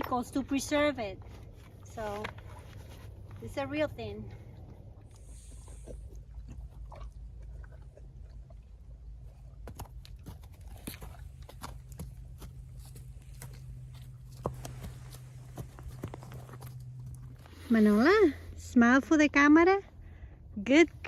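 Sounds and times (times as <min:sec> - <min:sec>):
horse chewing and crunching: 0:00.0 - 0:18.3
steady low hum: 0:00.0 - 0:21.0.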